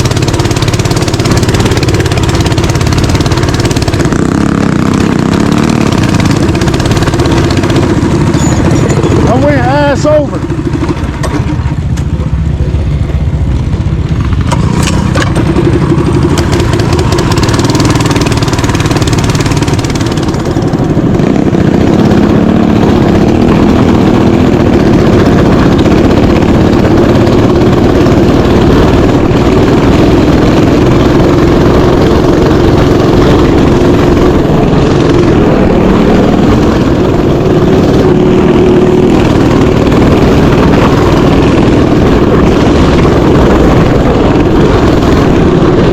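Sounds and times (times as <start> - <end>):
mini bike engine running: 0.0 - 45.9.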